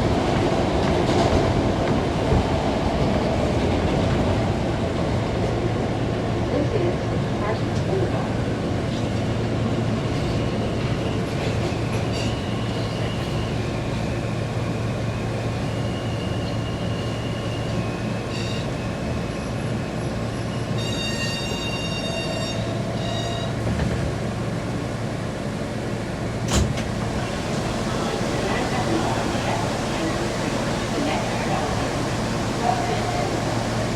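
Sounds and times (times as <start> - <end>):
subway train rumbling on tracks: 0.0 - 33.9.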